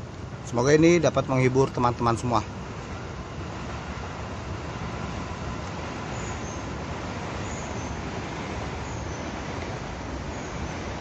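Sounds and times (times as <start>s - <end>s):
even outdoor hiss: 0.0s - 11.0s.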